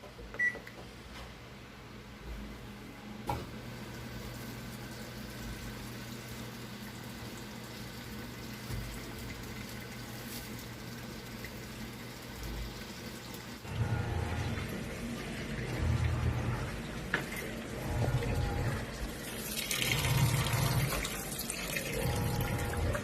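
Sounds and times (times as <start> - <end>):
water rushing into washing machine: 3.3 - 23.0.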